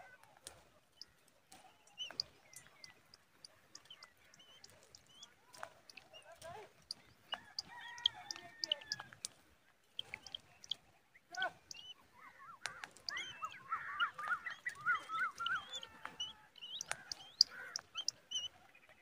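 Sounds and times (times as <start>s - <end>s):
longer pitched bird calls: 1.0s - 9.1s, 9.9s - 19.0s
hawk chicks chirping: 1.8s - 9.3s, 9.9s - 18.6s.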